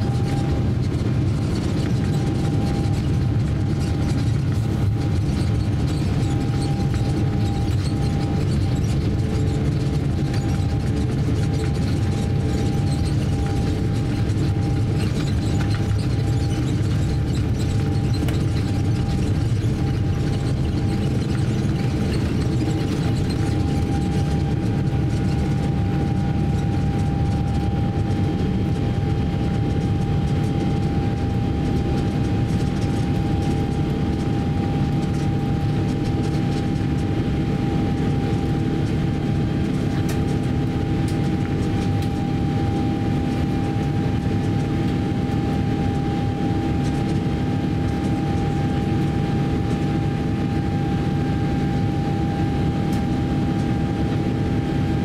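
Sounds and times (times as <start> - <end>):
high engine whine: 0.0 - 55.0
jet engine cabin drone: 0.0 - 55.0.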